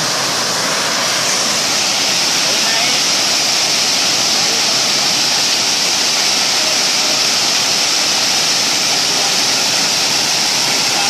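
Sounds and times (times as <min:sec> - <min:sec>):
waterfall pouring and crashing: 0:00.0 - 0:11.0.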